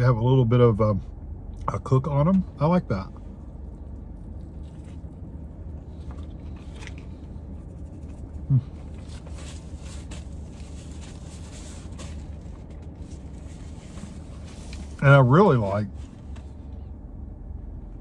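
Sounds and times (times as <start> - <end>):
car cabin hum: 0.0 - 18.0.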